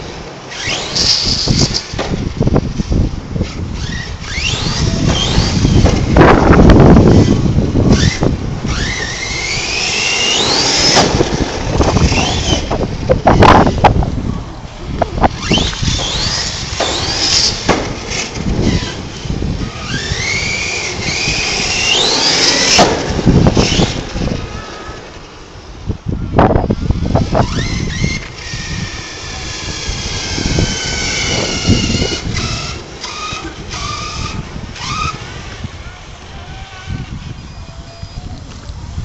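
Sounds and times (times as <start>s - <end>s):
electric motor whining: 0.0s - 14.3s, 14.9s - 38.7s.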